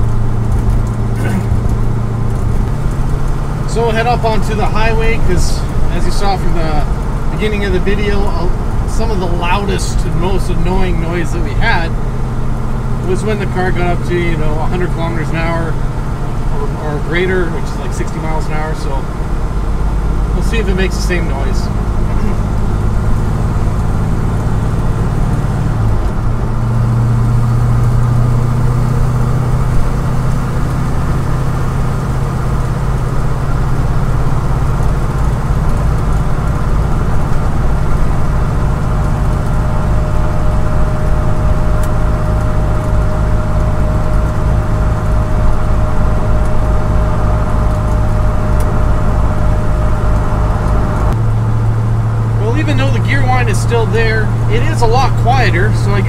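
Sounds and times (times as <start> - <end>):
differential gear whine: 0.0 - 56.0
engine and road noise drone: 0.0 - 56.0.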